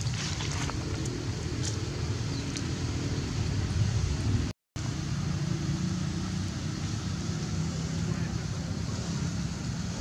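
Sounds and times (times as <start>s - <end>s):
low rumble with hiss: 0.0s - 10.0s.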